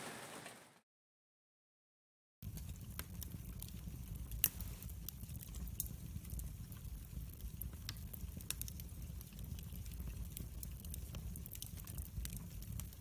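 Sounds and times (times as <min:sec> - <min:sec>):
fire crackling and popping: 0:02.4 - 0:13.0
low fire rumble: 0:02.4 - 0:13.0.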